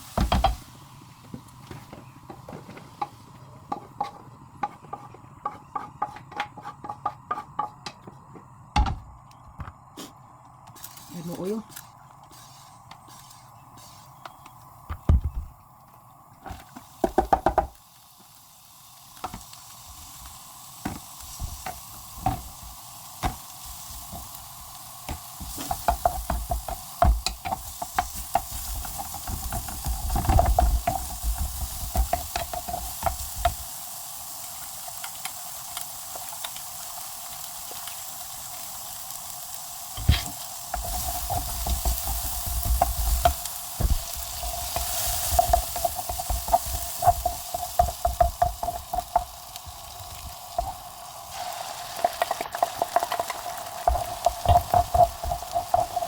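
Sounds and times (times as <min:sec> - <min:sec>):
pan sizzling: 0:00.0 - 0:07.7, 0:12.3 - 0:56.0.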